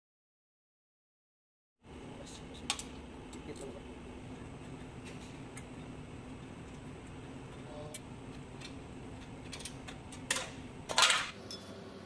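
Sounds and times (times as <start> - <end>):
steady low hum: 1.8 - 12.0.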